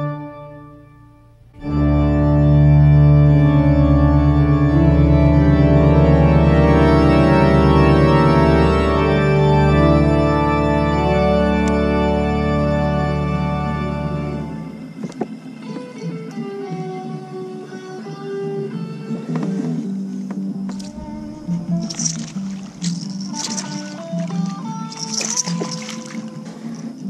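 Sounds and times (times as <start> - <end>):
organ music: 0.0 - 27.0.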